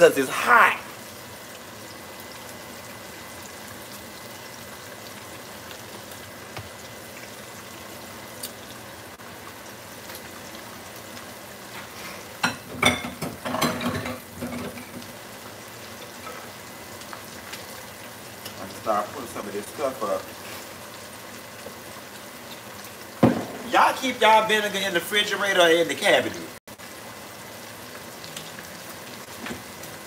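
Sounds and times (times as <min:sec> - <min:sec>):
meat sizzling in oil: 0:00.0 - 0:30.0.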